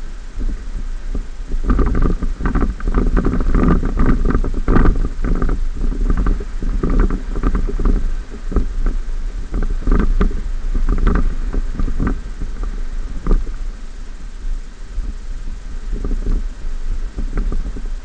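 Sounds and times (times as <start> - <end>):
wind and road rumble: 0.0 - 18.0.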